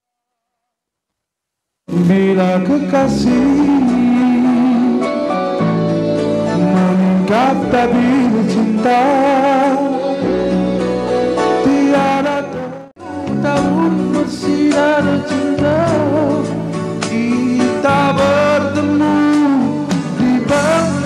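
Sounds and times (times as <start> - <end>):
man singing into a microphone: 1.9 - 5.7, 6.4 - 10.6, 11.4 - 21.0
instrumental accompaniment: 1.9 - 21.0.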